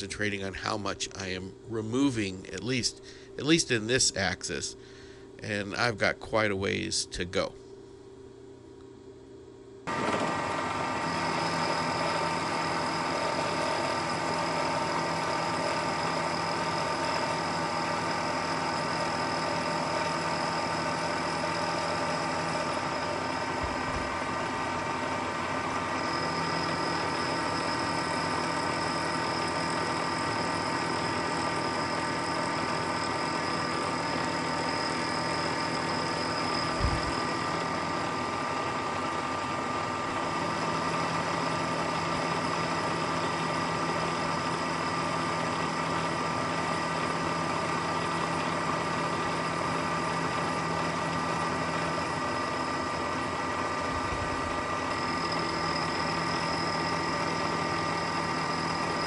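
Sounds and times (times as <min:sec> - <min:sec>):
higher whine: 0:00.0 - 0:59.0
milling machine hum and whine: 0:00.0 - 0:59.0.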